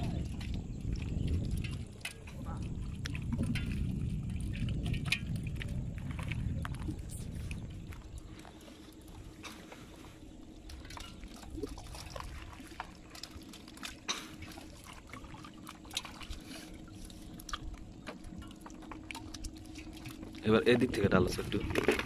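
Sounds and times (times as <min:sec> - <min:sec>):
hand sloshing water in bucket: 0:00.0 - 0:22.0.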